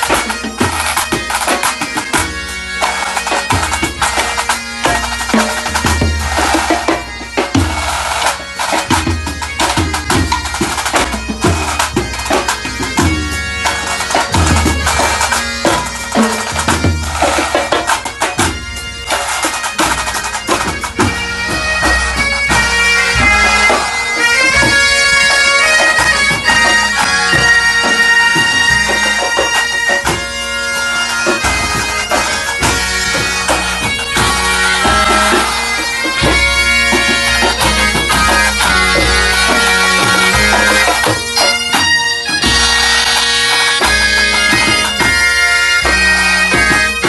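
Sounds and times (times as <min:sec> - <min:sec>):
bagpipes over drone: 0:00.0 - 0:47.0
drums beating: 0:00.0 - 0:47.0.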